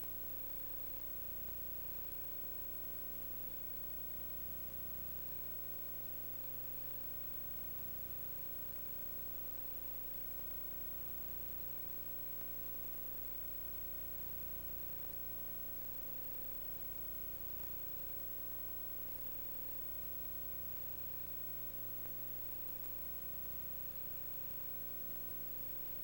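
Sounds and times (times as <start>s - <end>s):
electrical hum: 0.0s - 26.0s
steady hiss: 0.0s - 26.0s.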